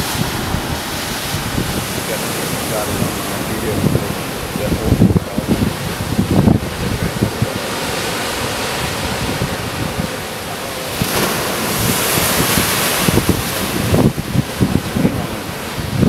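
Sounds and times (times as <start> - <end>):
ocean surf crashing on rocks: 0.0 - 16.0
wind buffeting microphone: 0.0 - 16.0.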